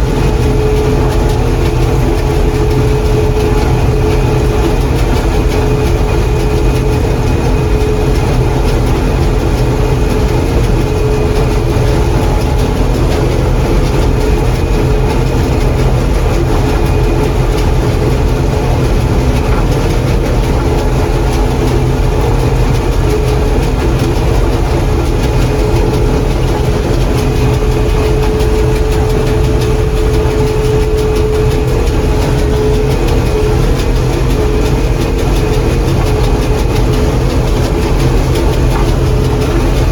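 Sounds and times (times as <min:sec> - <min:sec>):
combine engine and machinery drone: 0:00.0 - 0:39.9
machinery whine: 0:00.0 - 0:39.9.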